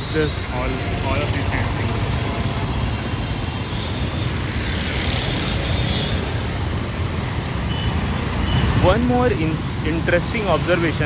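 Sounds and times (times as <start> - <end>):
vehicles passing on road: 0.0 - 11.0.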